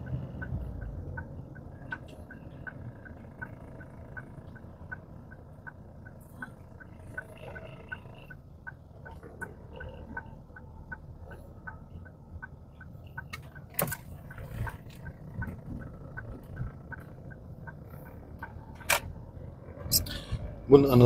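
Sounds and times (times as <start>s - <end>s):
engine and road rumble: 0.0s - 21.0s
turn signal ticking: 0.0s - 21.0s.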